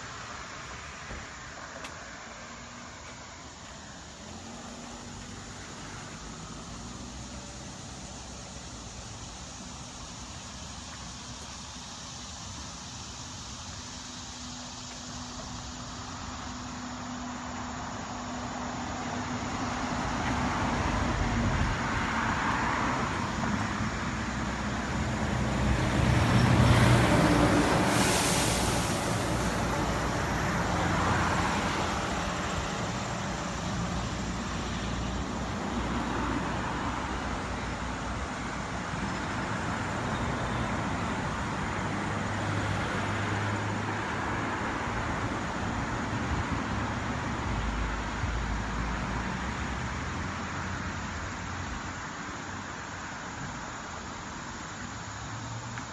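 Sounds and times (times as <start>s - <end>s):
cars passing by: 0.0s - 55.9s.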